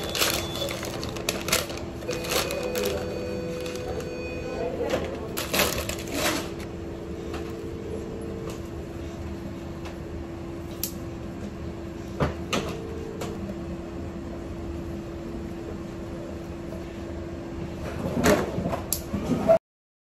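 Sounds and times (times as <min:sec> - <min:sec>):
machine humming low: 0:00.0 - 0:17.8.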